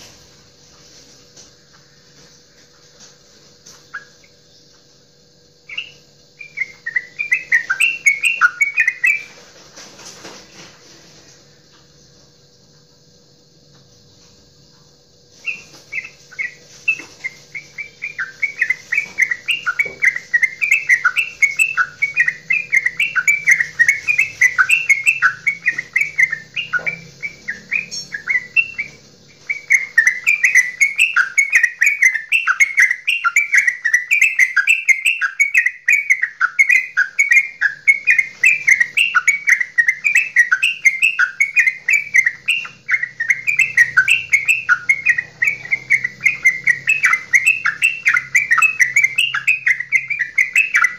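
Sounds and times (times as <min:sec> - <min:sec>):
bulbul chattering song: 0:01.4 - 0:09.5, 0:14.5 - 0:50.9.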